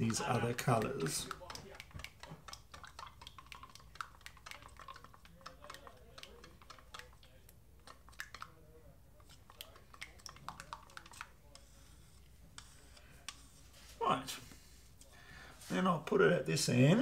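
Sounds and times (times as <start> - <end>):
stick stirring paint in cup: 0.0 - 15.8.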